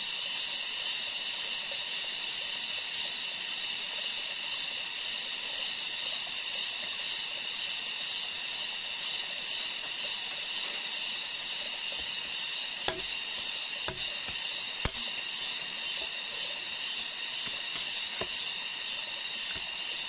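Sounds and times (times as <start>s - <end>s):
insect chorus hissing: 0.0s - 20.0s.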